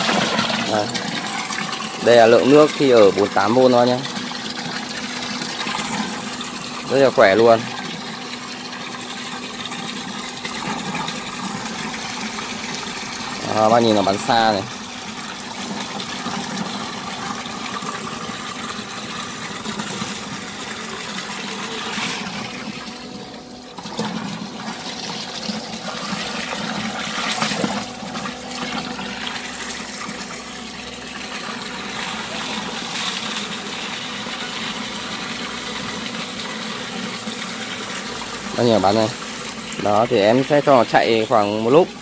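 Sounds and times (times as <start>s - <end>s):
hose water splashing into drum: 0.0s - 42.0s.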